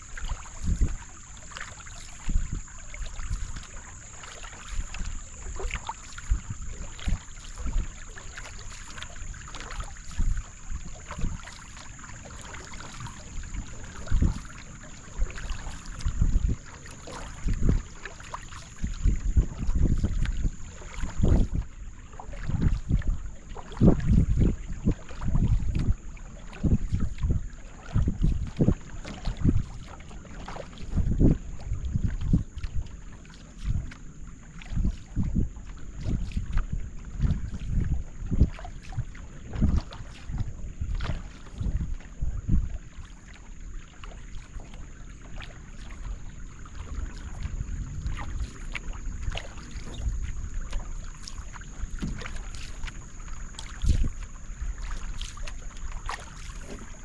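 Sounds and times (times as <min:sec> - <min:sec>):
paddle strokes splashing: 0:00.0 - 0:57.0
wind buffeting microphone: 0:00.0 - 0:57.0.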